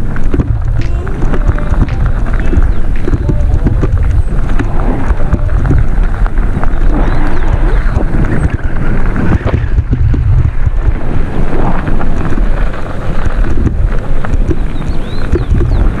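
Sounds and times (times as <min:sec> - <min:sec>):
bike knocks and rattles: 0:00.0 - 0:16.0
wind buffeting microphone: 0:00.0 - 0:16.0.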